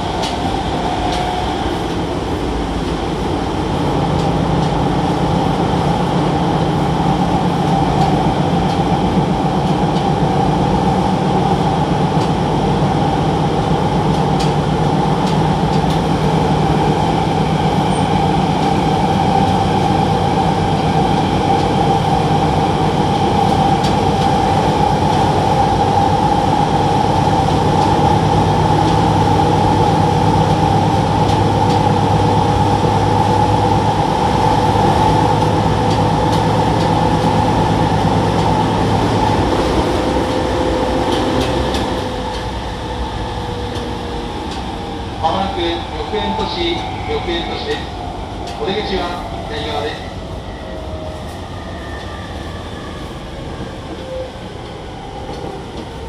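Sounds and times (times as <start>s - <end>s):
train motor hum: 0.0s - 56.0s
wheels rumbling on rail: 0.0s - 56.0s.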